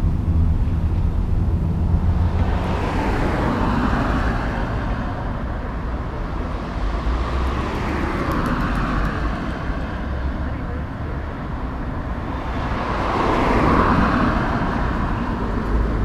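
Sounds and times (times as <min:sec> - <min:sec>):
traffic passing: 0:00.0 - 0:16.0
vehicle engine humming: 0:00.0 - 0:16.0.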